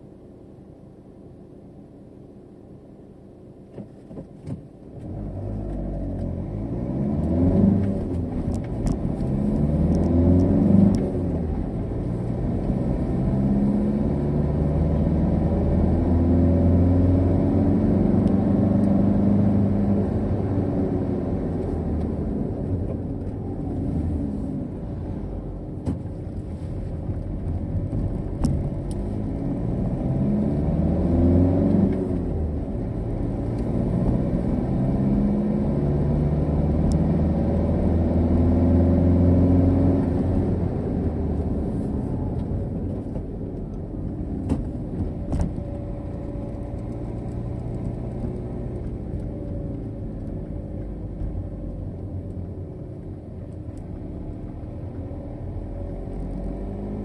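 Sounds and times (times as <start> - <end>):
car engine accelerating: 4.9 - 57.0.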